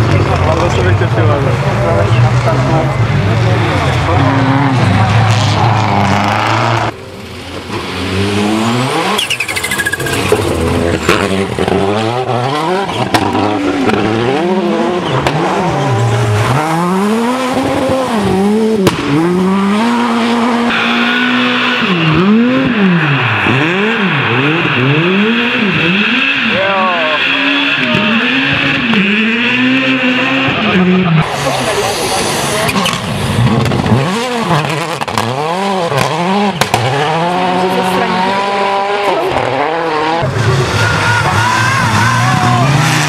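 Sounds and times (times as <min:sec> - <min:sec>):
rally car engines revving: 0:00.0 - 0:43.0.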